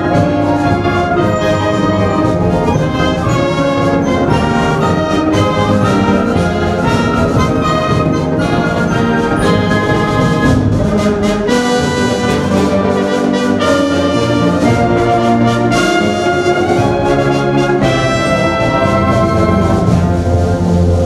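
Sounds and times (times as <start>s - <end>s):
brass band playing held chords: 0.0s - 21.0s.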